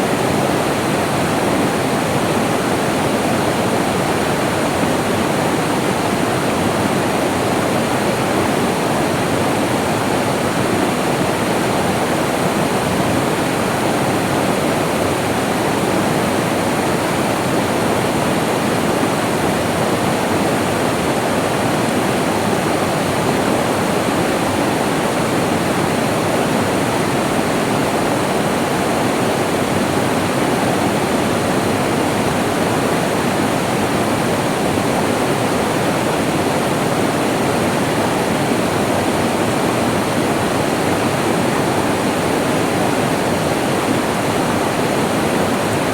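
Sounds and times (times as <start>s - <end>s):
stream rushing water: 0.0s - 45.9s.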